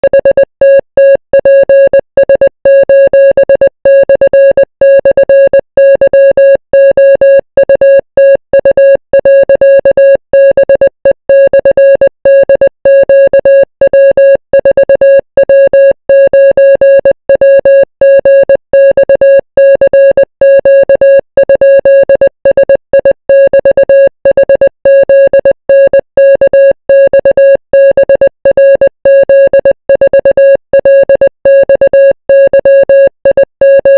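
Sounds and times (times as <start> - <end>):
morse code beeps: 0.0 - 33.9.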